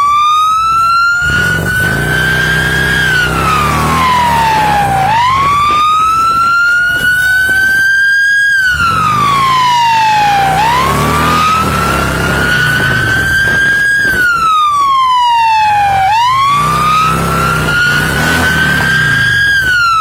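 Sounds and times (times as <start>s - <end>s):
police siren wailing: 0.0s - 20.0s
vehicle engine running: 0.0s - 20.0s.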